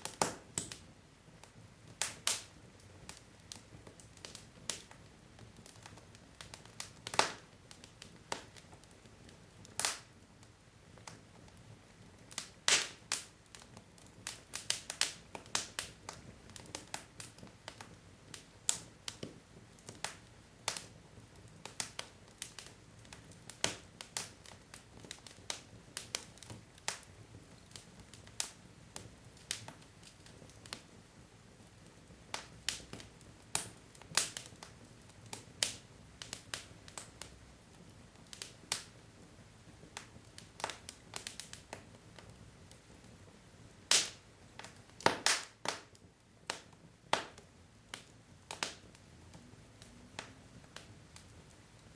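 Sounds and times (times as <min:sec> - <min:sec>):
faint low hiss: 0:00.0 - 0:51.9
wood fire crackling: 0:00.0 - 0:51.9.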